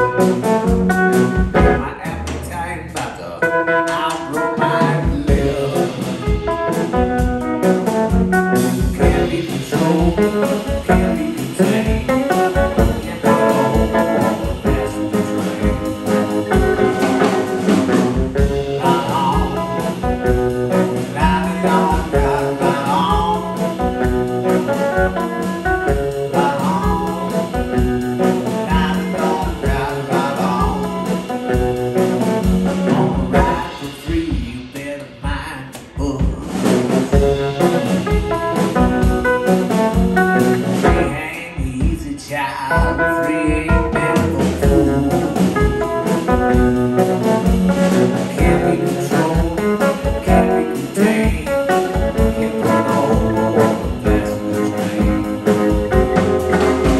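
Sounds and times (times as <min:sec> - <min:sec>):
blues band playing: 0:00.0 - 0:56.9
guitar: 0:00.0 - 0:56.9.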